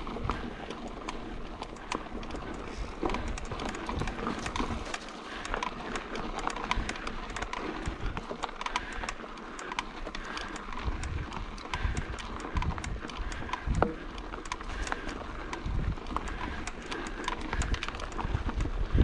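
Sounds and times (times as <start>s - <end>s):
bike rattling: 0.0s - 19.0s.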